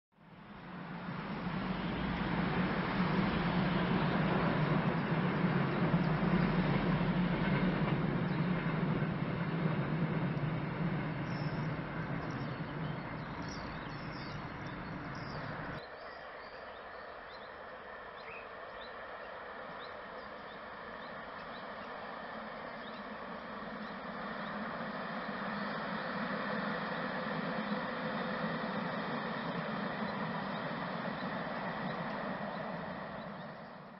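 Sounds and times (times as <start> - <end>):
train rumble with low hum: 0.2 - 33.9
distant hum: 1.4 - 33.9
birds chirping: 3.5 - 33.9.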